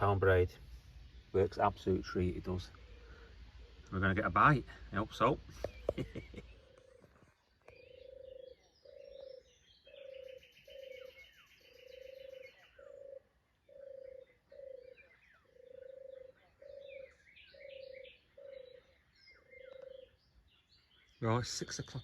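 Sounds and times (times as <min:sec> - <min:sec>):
birds chirping: 0:00.0 - 0:22.0
frogs croaking: 0:01.6 - 0:20.4.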